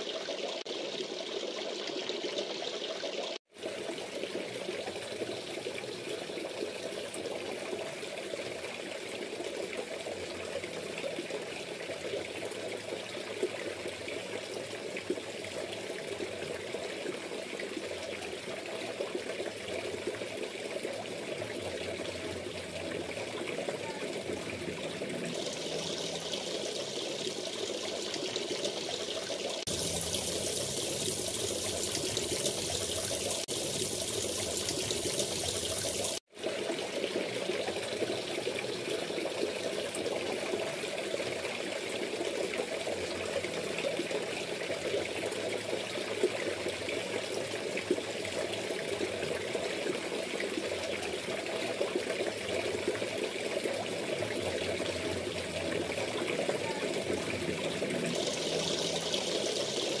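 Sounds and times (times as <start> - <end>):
water splashing into pond: 0.0 - 60.0.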